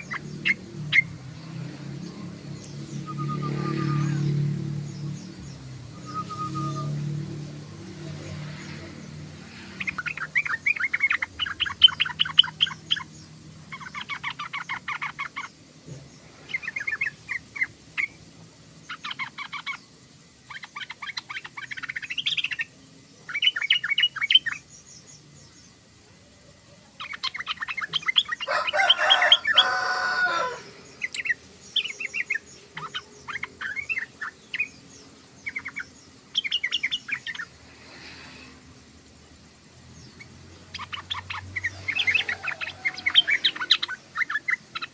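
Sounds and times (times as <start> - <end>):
bulbul chattering song: 0.0 - 44.9.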